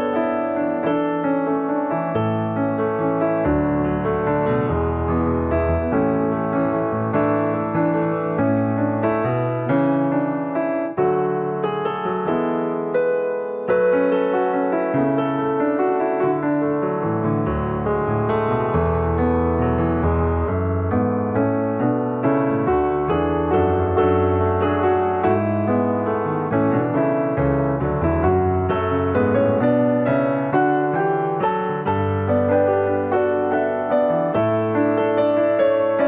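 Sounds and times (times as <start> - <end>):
piano melody: 0.0 - 36.0.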